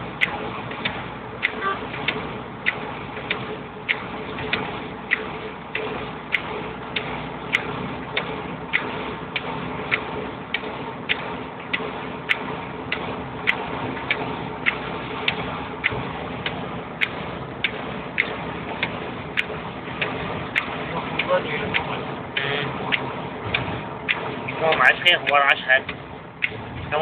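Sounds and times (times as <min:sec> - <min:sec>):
road and engine hum: 0:00.0 - 0:27.0.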